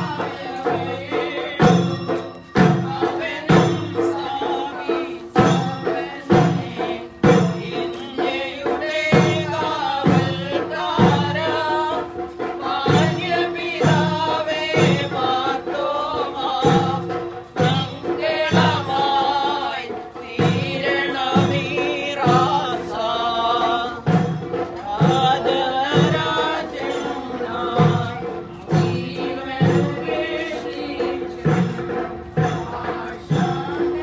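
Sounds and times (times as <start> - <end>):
drum beat: 0.0 - 34.0
group singing a hymn: 0.0 - 34.0.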